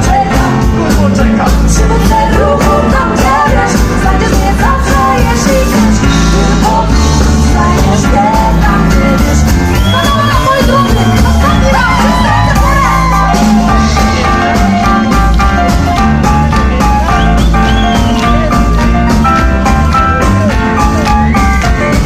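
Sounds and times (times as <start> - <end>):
bass guitar: 0.0 - 22.0
person singing: 0.0 - 22.0
steady drum beat: 0.0 - 22.0.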